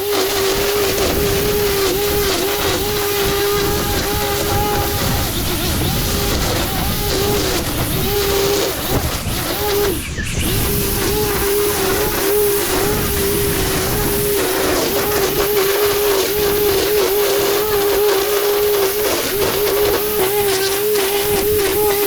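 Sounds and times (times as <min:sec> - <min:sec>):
loud rushing hiss: 0:00.0 - 0:22.0
power tool motor whine: 0:00.0 - 0:22.0.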